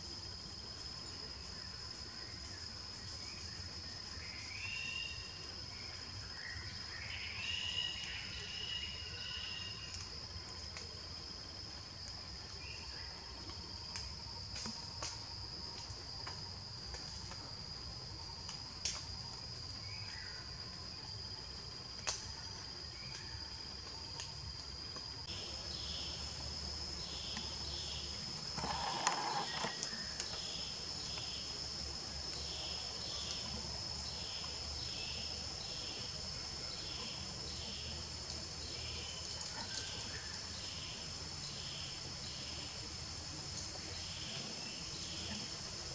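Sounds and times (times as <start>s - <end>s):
insect chirps: 0.0s - 45.9s.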